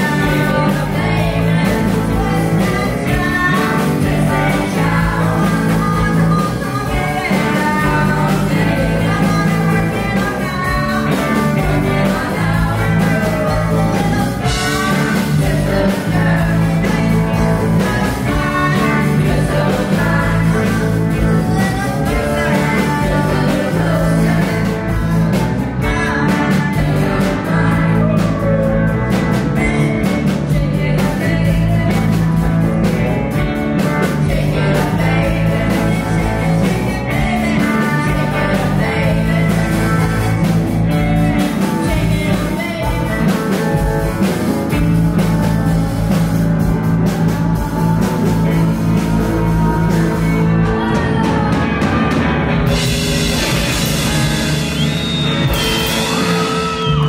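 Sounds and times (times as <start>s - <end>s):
electric guitar: 0.0s - 57.0s
person singing: 0.0s - 57.0s
rock band playing live: 0.0s - 57.0s.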